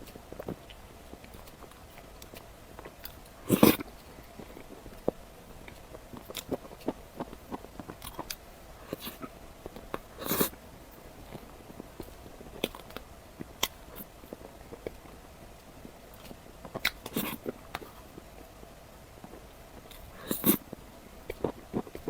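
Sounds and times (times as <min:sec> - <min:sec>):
crunching and chewing: 0:00.0 - 0:22.0.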